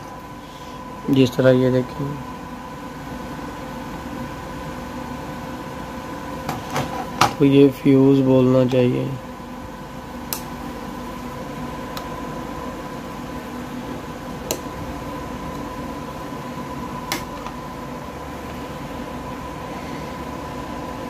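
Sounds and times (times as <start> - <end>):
electrical hum with whine: 0.0 - 21.0.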